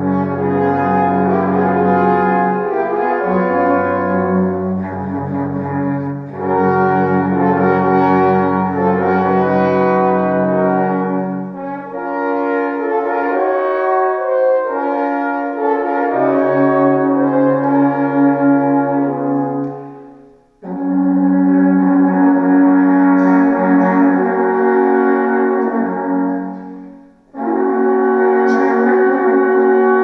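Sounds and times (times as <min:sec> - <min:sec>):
alphorns and horns playing chords: 0:00.0 - 0:30.0.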